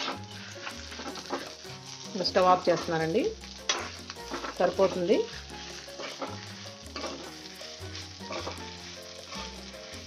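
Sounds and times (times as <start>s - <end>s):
ladle scraping a metal pan: 0.0s - 10.0s
oil sizzling in pan: 0.0s - 10.0s.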